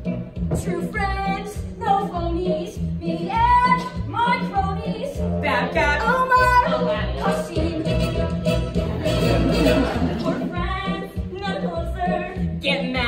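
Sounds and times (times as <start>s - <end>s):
instrumental accompaniment: 0.0s - 13.0s
young voices singing: 1.2s - 8.1s, 8.9s - 13.0s.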